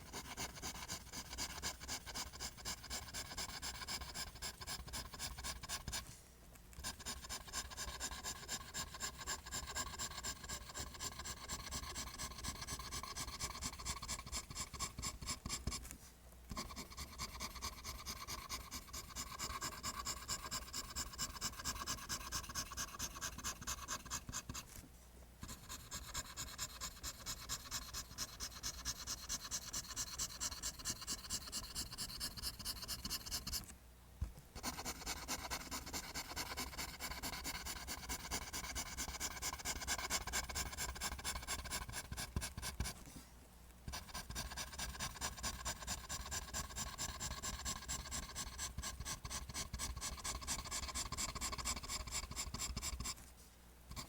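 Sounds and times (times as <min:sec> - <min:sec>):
pencil scratching on paper: 0:00.0 - 0:06.2, 0:06.8 - 0:15.9, 0:16.5 - 0:24.8, 0:25.4 - 0:33.7, 0:34.6 - 0:43.1, 0:43.9 - 0:53.2.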